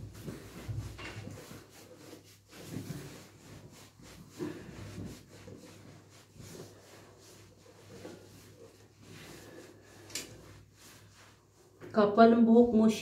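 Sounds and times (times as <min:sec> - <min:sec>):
towel rubbing wet fur: 0:00.0 - 0:11.9.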